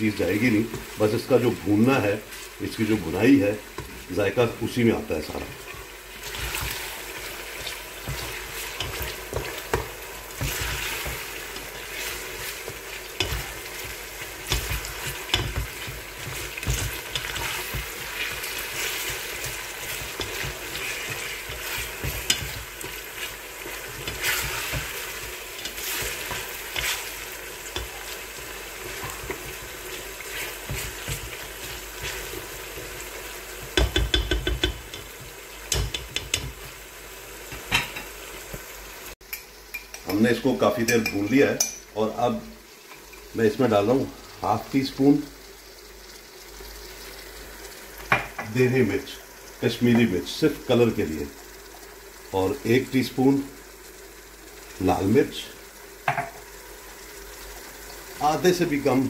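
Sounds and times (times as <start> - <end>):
beef and onions sizzling: 0.0 - 59.0.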